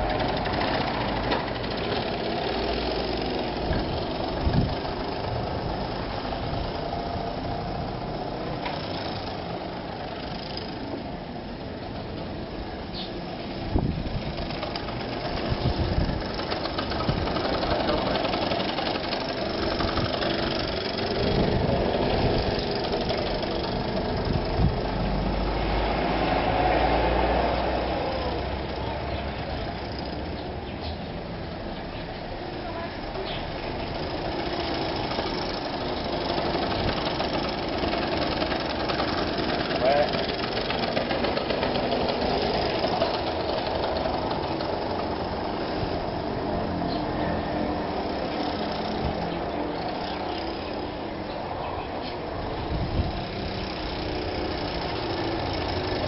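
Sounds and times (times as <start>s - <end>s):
moped two-stroke engine passing: 0.0s - 56.0s.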